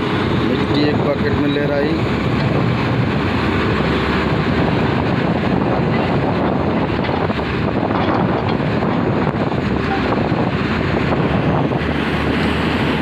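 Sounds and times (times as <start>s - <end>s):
excavator diesel engine running: 0.0s - 13.0s
wind buffeting microphone: 0.0s - 13.0s.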